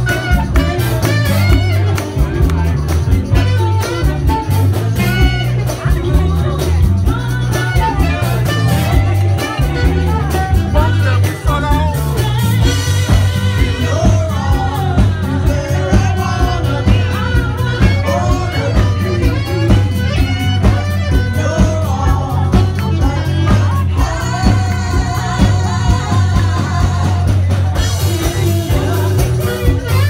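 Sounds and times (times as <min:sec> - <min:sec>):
bass line: 0:00.0 - 0:30.0
drum beats: 0:00.0 - 0:30.0
saxophone melody: 0:00.0 - 0:30.0.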